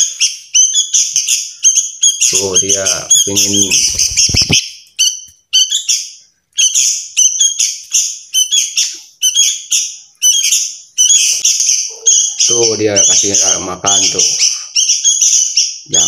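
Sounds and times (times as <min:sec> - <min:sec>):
fledglings harsh begging calls: 0:00.0 - 0:16.0.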